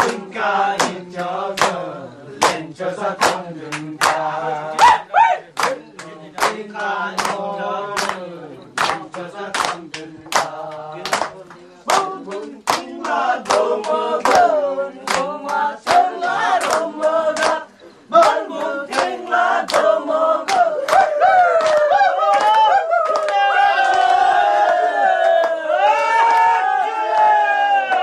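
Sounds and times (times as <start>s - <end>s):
hand claps: 0.0s - 5.0s, 5.6s - 24.1s
group of voices chanting: 0.0s - 28.0s.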